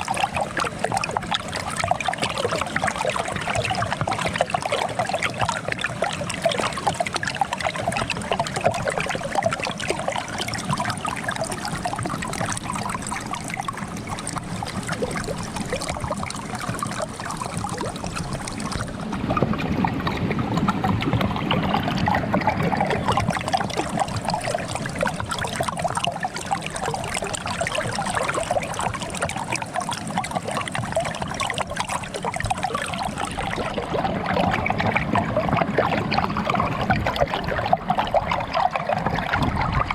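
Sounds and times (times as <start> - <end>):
small bubbling splashes: 0.0 - 39.9
water trickling under ice: 0.0 - 39.9.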